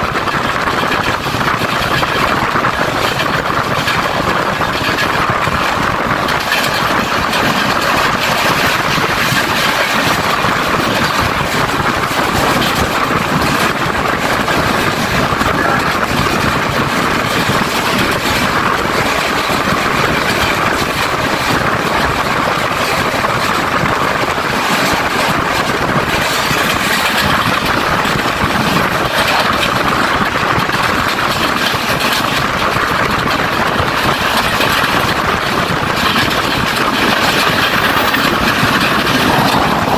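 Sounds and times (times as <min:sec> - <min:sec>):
train wheel and track noise: 0:00.0 - 0:39.9.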